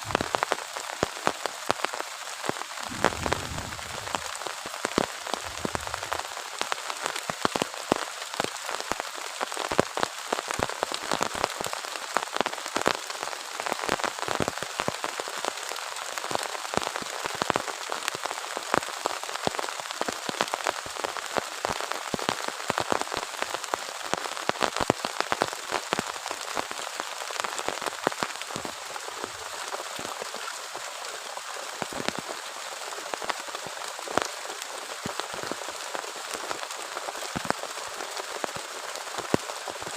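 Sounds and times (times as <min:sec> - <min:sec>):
heavy rain hissing: 0:00.0 - 0:39.9
raindrops ticking close by: 0:00.0 - 0:39.9.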